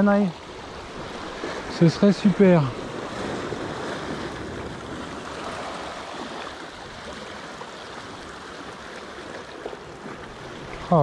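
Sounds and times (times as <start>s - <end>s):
sea water washing at shoreline: 0.0s - 11.0s.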